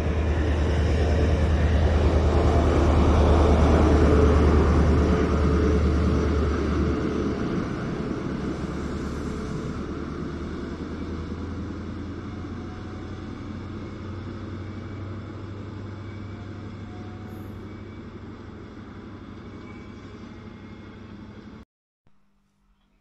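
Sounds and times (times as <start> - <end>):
train engine drone: 0.0 - 21.6
wheels rumbling on rail: 0.0 - 21.6.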